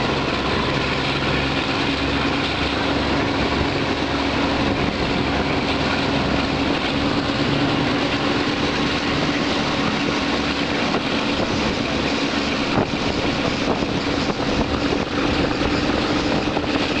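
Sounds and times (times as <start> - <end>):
low drone: 0.0 - 17.0
train wheel and wind noise: 0.0 - 17.0.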